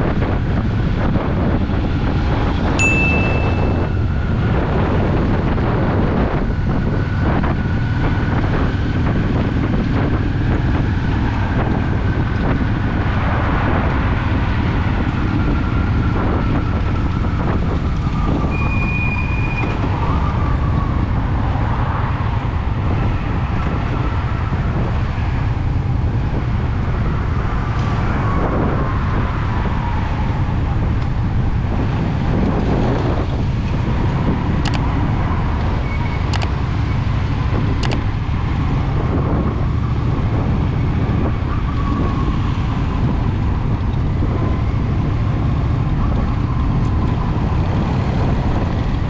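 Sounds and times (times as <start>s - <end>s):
wind rushing over microphone: 0.0s - 49.0s.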